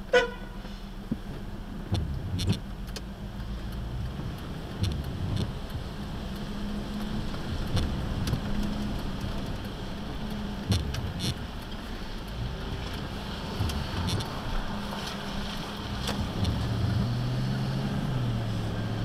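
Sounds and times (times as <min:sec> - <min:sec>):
low engine hum: 0:00.0 - 0:19.0
tyres hissing on wet road: 0:00.0 - 0:19.0
sharp clicks and knocks: 0:01.1 - 0:17.0.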